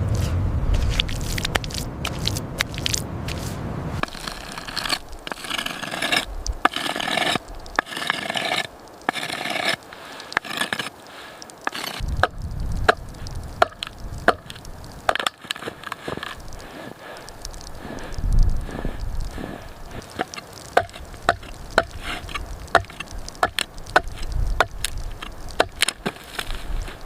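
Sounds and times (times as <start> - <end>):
wood scraping: 0.0 - 27.0.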